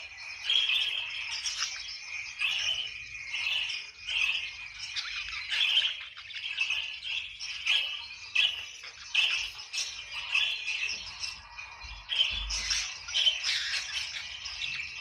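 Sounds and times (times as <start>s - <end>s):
budgerigars chattering and chirping: 0.0s - 15.0s.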